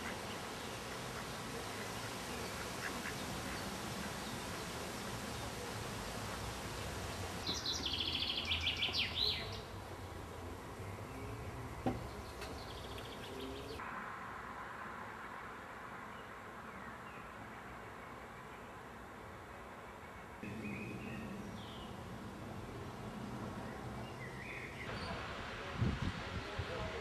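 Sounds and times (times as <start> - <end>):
songbird singing: 0.0 - 13.8, 16.0 - 26.4.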